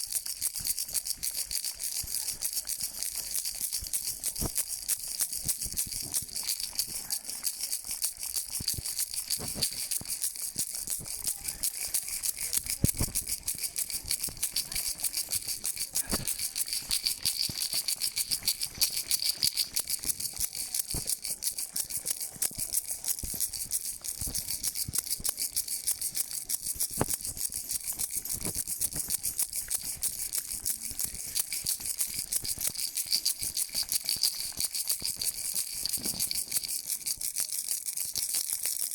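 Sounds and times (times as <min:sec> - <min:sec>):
hand-shaken noisemaker rattling: 0:00.0 - 0:38.9.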